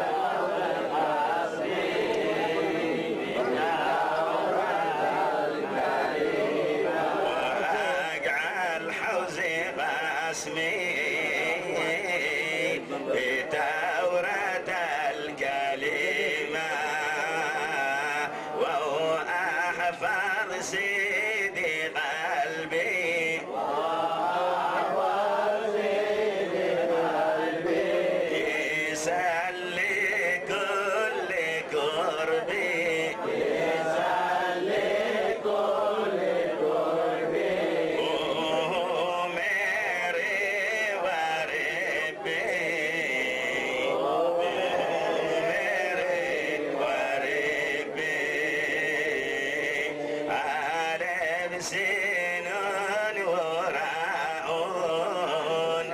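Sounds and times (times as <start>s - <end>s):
men chanting a hymn: 0.0s - 55.9s.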